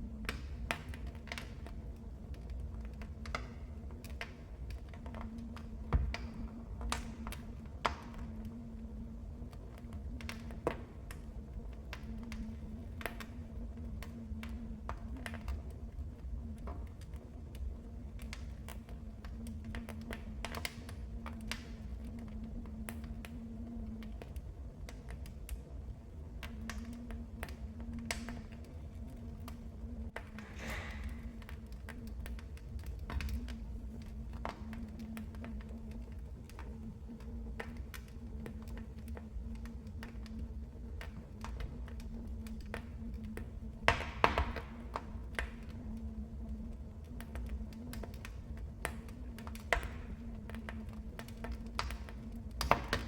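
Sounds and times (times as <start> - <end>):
low rumble of flames: 0.0 - 53.0
wood fire crackling: 0.0 - 53.0
sharp pops and snaps: 0.2 - 53.0.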